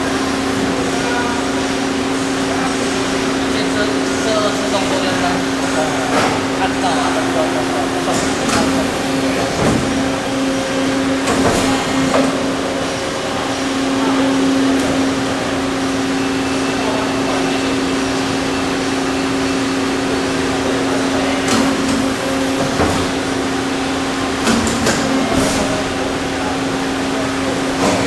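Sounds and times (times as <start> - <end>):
machine mechanical hum: 0.0 - 28.0.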